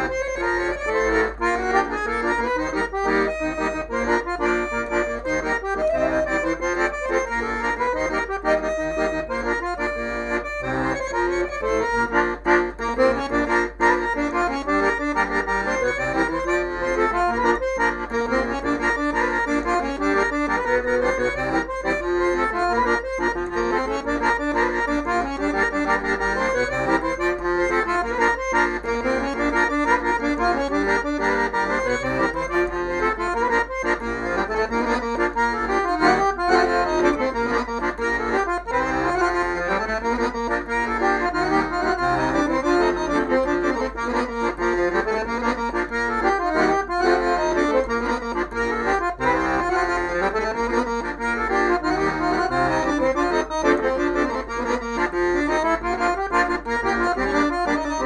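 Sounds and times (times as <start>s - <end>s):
accordion melody with quick runs: 0.0s - 58.0s.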